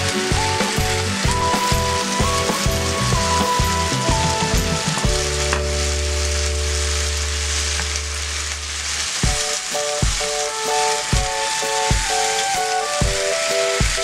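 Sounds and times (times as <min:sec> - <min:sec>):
background music: 0:00.0 - 0:08.6, 0:09.2 - 0:14.0
vegetables sizzling in frying pan: 0:00.0 - 0:14.0.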